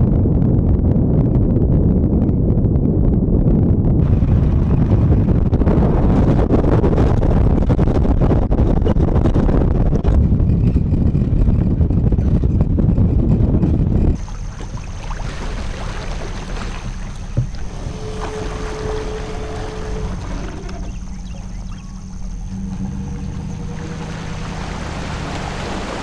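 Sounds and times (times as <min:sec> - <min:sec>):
vehicle rumble on dirt road: 0:00.0 - 0:26.0
wind buffeting microphone: 0:00.0 - 0:26.0.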